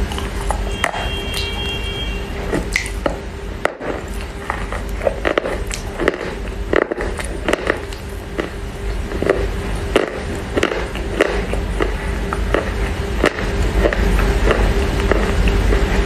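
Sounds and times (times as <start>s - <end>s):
chewing crunchy clay: 0.0s - 1.8s, 2.4s - 16.0s
steady low hum: 0.0s - 16.0s.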